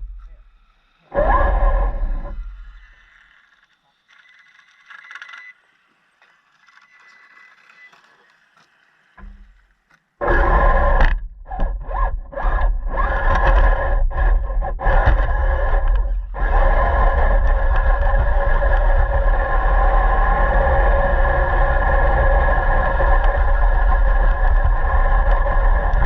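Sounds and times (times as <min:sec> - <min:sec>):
radio-controlled car rumbling: 0:00.0 - 0:26.0.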